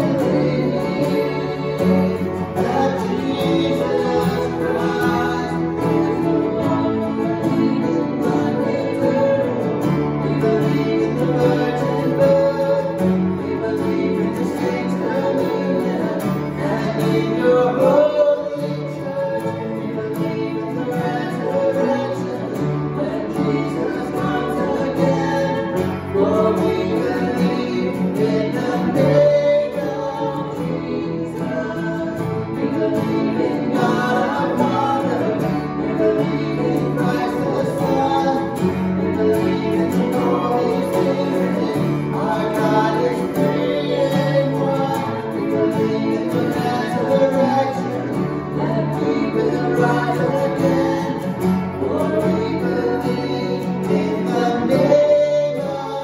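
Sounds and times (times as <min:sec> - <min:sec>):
acoustic guitar: 0:00.0 - 0:56.0
man singing: 0:00.0 - 0:56.0
upright piano: 0:00.0 - 0:56.0.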